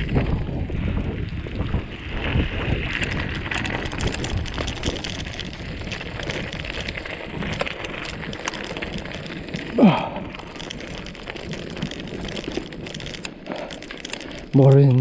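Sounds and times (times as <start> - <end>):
rough crackling rumble: 0.0 - 15.0
wind buffeting microphone: 0.0 - 15.0.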